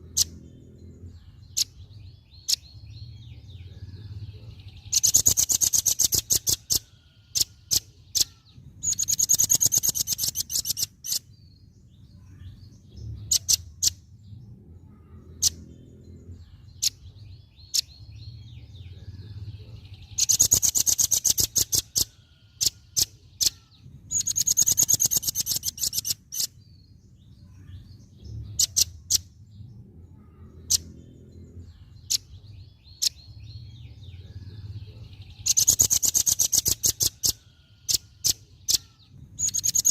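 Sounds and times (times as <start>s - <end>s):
sharp bird chirps: 0.0s - 14.2s, 14.9s - 29.6s, 30.2s - 39.9s
bird singing rapid high trills: 0.0s - 39.9s
soft bird twittering: 0.0s - 39.9s.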